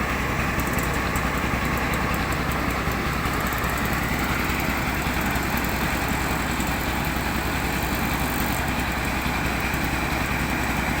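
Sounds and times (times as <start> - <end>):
engine running with rapid pulse: 0.0 - 11.0.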